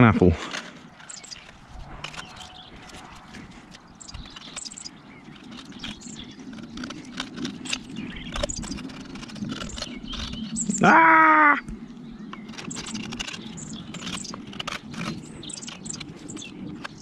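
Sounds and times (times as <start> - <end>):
birds chirping: 0.0 - 17.0
light clicks and scrapes: 0.4 - 10.8, 12.3 - 17.0.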